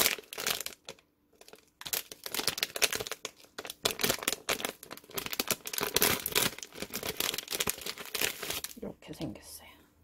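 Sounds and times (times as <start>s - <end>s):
plastic packet crinkling: 0.0s - 8.9s.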